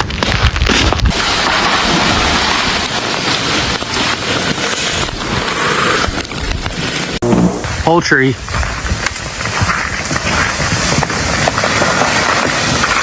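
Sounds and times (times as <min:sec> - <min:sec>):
heavy rain on hard surfaces: 0:00.9 - 0:13.0.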